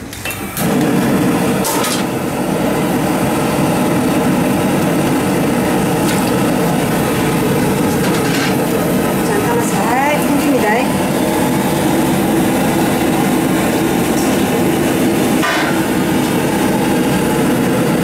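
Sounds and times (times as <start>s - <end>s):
gas burner flame roaring: 0.0s - 18.0s.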